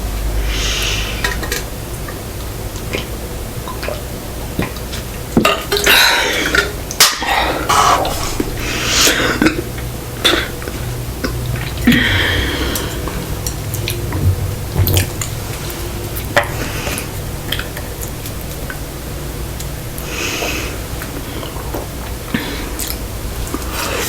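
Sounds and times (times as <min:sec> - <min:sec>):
wet chewing and squishing: 0:00.8 - 0:24.0.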